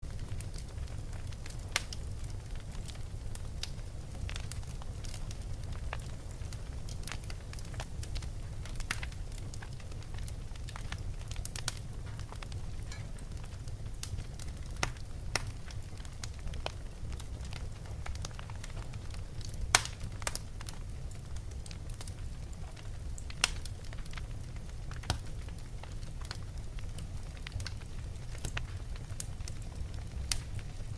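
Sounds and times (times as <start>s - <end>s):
fire crackling and popping: 0.0s - 30.9s
wood fire burning: 0.0s - 30.9s.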